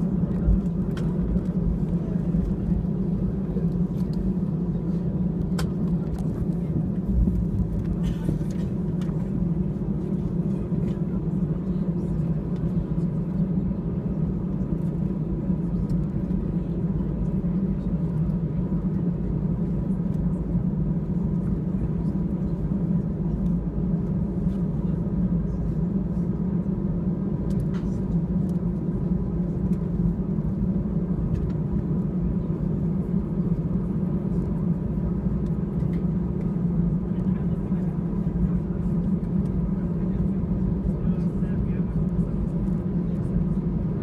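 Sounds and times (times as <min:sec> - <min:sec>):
airplane engines humming: 0:00.0 - 0:44.0.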